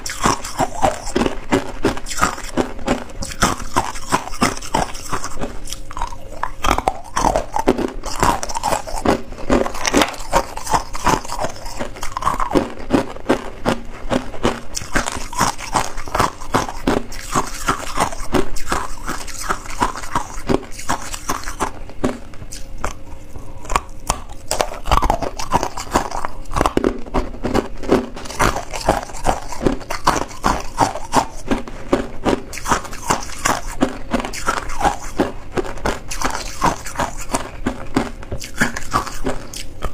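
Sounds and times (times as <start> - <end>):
teeth crunching ice: 0.0 - 39.9.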